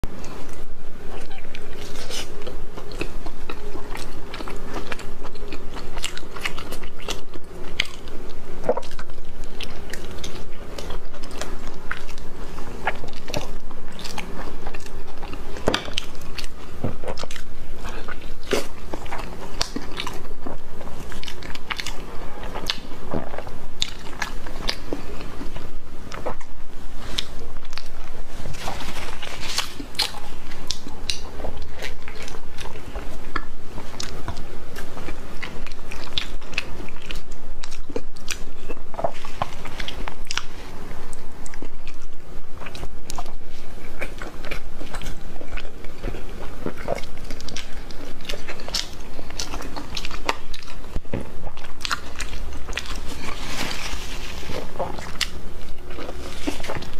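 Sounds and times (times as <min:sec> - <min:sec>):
person chewing with wet mouth clicks: 0:00.2 - 0:53.4, 0:54.5 - 0:56.9.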